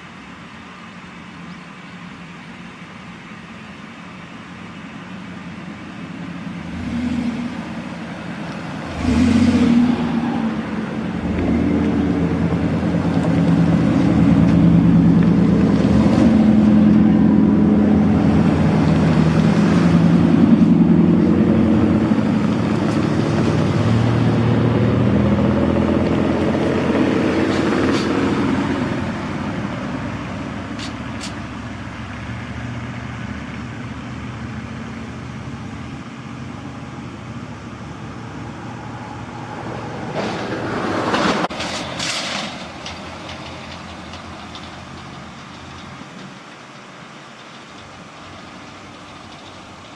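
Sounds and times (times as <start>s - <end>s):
truck engine driving past: 5.1s - 49.9s.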